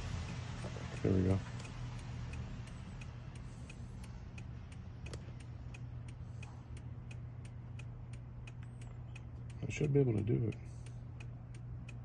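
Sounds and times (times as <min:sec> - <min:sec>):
low steady hum: 0:00.0 - 0:12.0
steady sharp ticking: 0:00.0 - 0:12.0.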